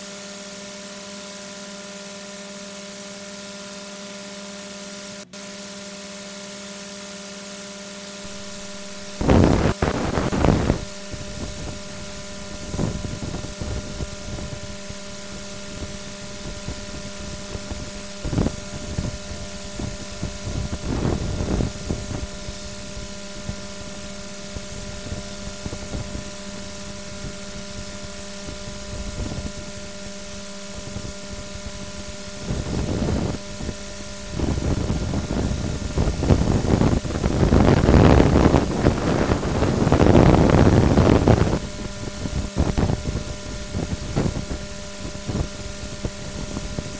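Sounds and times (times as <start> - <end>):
electrical hum: 7.8 - 46.9
wind buffeting microphone: 8.3 - 46.9.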